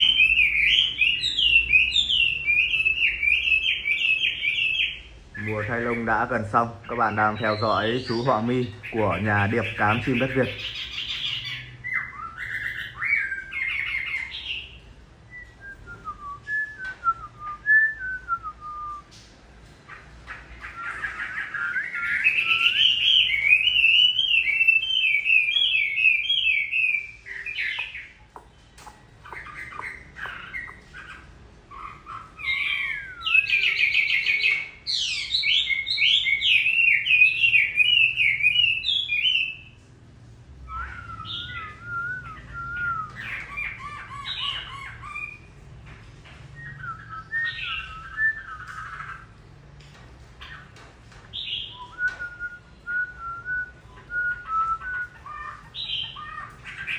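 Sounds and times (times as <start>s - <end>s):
songbird singing whistled phrases: 0.0s - 19.3s, 20.5s - 39.9s, 40.6s - 45.5s, 46.5s - 49.3s, 50.4s - 56.9s.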